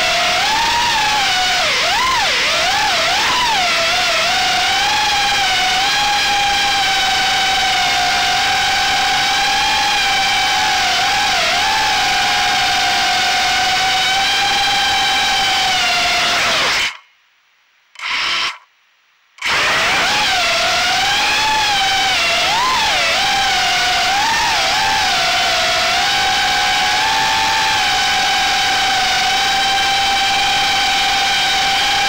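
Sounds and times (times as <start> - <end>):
quadcopter motors whining: 0.0 - 17.0, 19.4 - 32.0.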